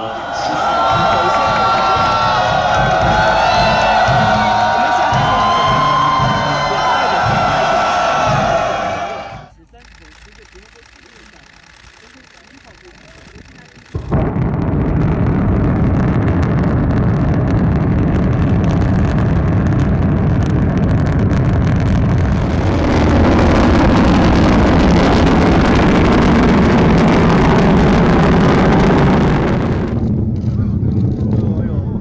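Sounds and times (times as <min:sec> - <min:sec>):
rocket engine roar: 0:00.0 - 0:09.5, 0:13.2 - 0:30.3.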